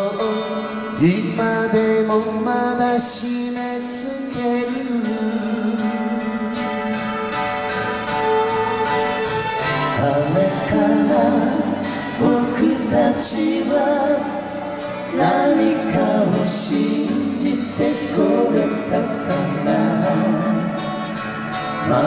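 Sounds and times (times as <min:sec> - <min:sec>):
live band playing pop ballad: 0:00.0 - 0:22.0.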